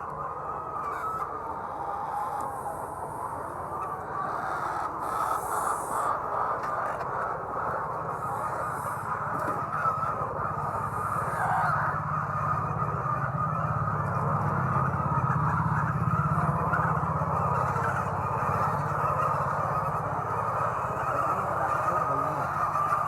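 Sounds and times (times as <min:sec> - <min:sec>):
flock of hens clucking: 0:00.0 - 0:23.0.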